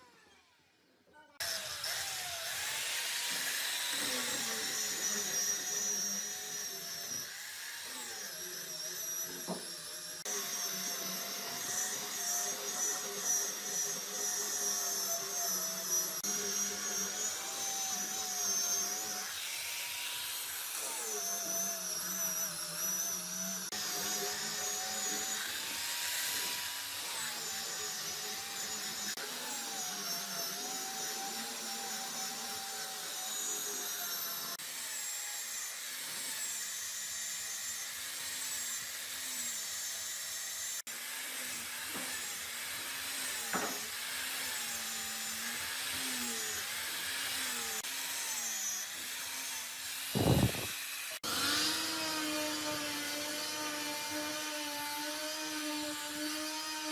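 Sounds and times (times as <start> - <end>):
power tool motor working wood: 0.0 - 56.9.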